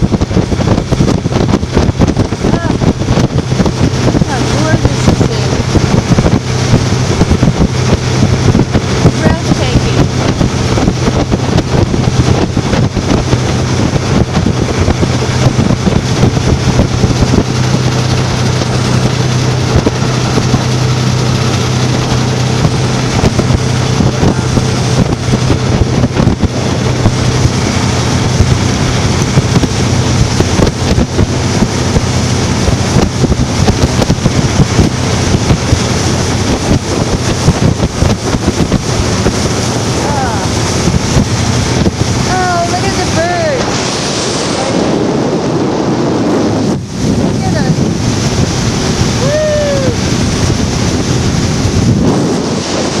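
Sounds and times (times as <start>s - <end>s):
motorboat engine humming: 0.0s - 53.0s
rushing water: 0.0s - 53.0s
wind buffeting microphone: 0.0s - 53.0s.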